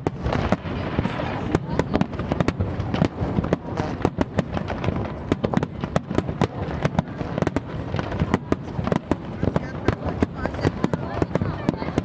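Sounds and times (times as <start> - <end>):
fireworks cracks and pops: 0.0 - 12.0
low rumble of bursting shells: 0.0 - 12.0.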